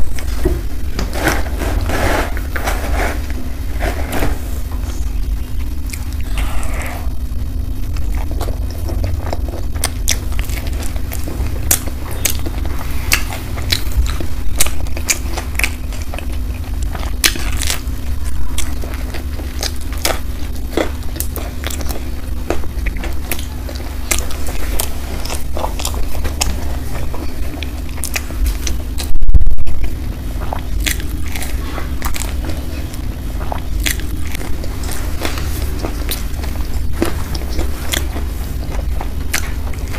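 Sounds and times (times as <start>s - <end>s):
person chewing crunchy pizza: 0.0s - 39.9s
steady low hum: 0.0s - 39.9s.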